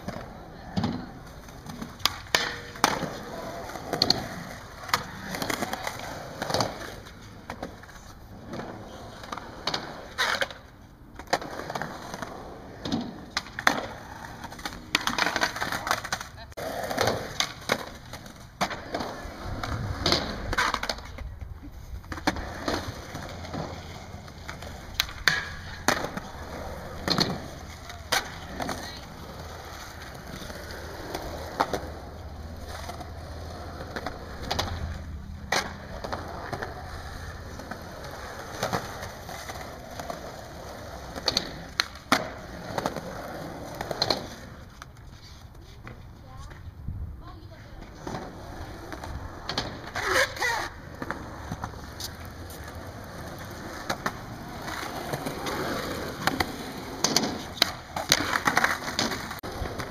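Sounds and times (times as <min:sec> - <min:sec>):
skateboard clacks and knocks: 0:00.0 - 0:21.5, 0:22.1 - 0:32.0, 0:32.7 - 0:44.9, 0:47.8 - 0:59.9
skateboard wheels rumbling on concrete: 0:00.0 - 0:59.9.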